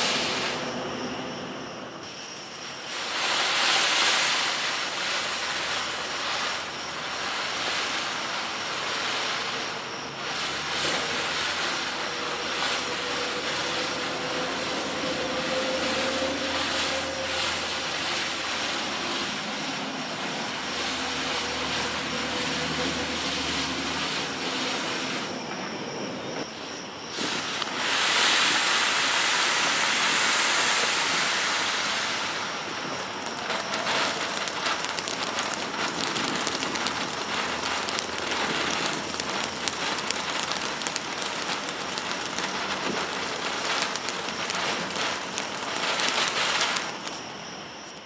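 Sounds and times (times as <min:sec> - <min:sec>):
firework crackles: 0:00.0 - 0:48.0
firework fountain hissing: 0:00.0 - 0:48.0.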